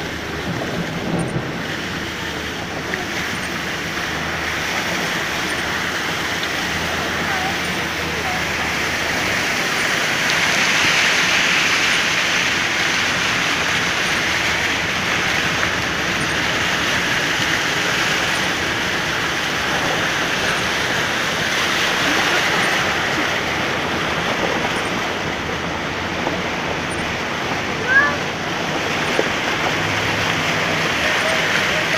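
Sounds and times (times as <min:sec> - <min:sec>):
car tyres churning through floodwater: 0:00.0 - 0:31.9
rush of water: 0:00.0 - 0:31.9.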